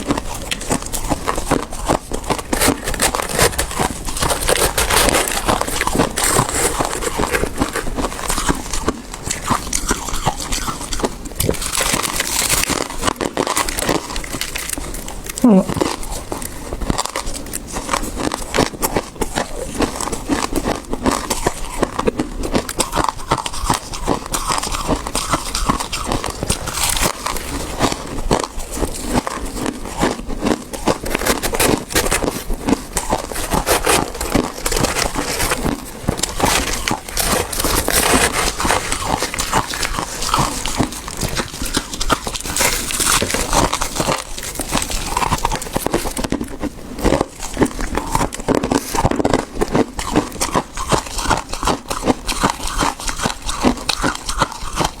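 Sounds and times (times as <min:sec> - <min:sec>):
chewing frost crunching: 0:00.0 - 0:55.0.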